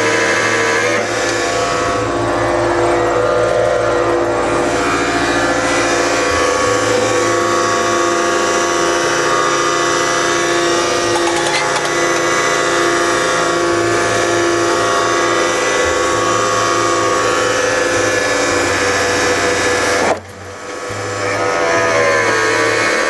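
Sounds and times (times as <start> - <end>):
hydraulic machine mechanical whine: 0.0 - 23.0.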